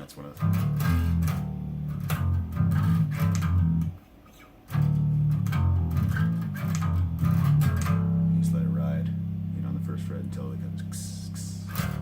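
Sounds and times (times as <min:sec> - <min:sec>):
bass guitar plucked notes: 0:00.0 - 0:04.0, 0:04.6 - 0:12.0.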